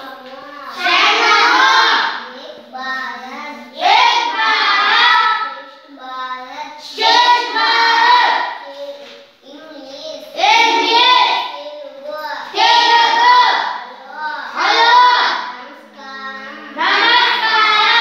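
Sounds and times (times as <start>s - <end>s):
children chanting in unison: 0.0s - 18.0s.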